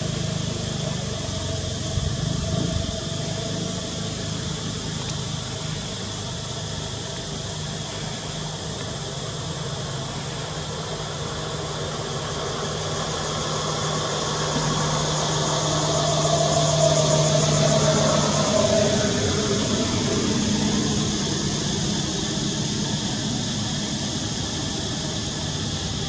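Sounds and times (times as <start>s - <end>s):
motor engine humming: 0.0s - 26.0s.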